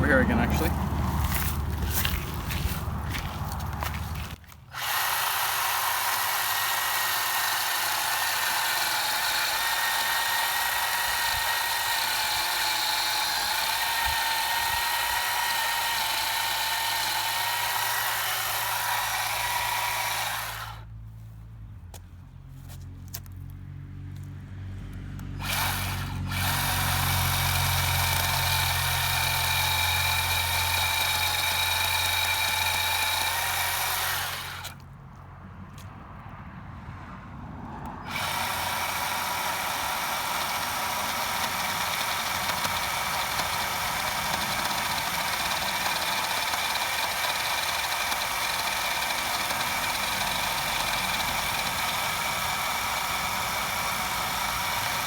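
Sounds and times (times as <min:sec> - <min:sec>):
electric chainsaw whining: 0:00.0 - 0:20.9, 0:25.4 - 0:34.8, 0:38.0 - 0:55.0.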